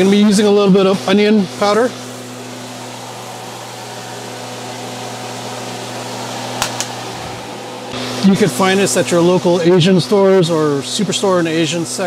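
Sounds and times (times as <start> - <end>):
exhaust fan humming: 0.0 - 12.0.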